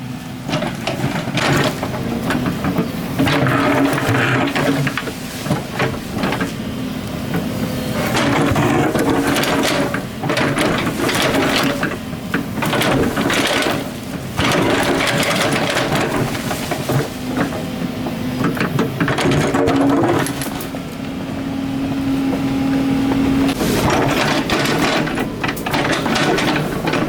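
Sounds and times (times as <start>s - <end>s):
excavator diesel engine: 0.0s - 27.0s
bucket scraping earth and rock: 0.4s - 20.9s, 23.3s - 27.0s.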